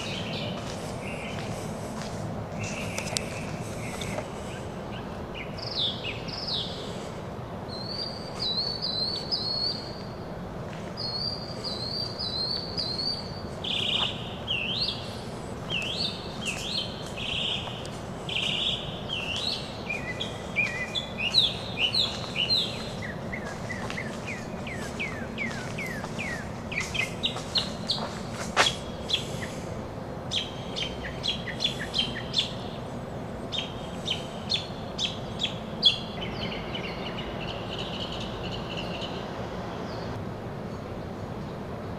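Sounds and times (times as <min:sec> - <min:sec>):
songbird singing varied chirps: 0:00.0 - 0:01.6, 0:02.6 - 0:06.9, 0:07.7 - 0:29.6, 0:30.2 - 0:41.6
steady background noise: 0:00.0 - 0:41.9.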